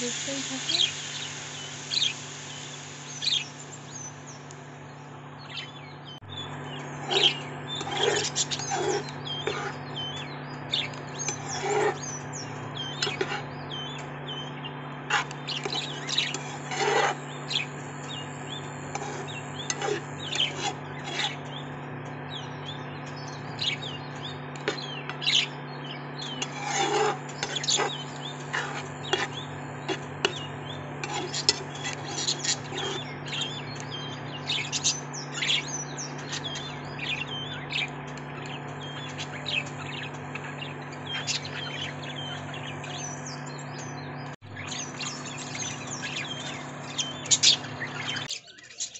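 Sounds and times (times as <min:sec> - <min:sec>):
steady low hum: 0:00.0 - 0:48.3
birds chirping: 0:00.0 - 0:48.9.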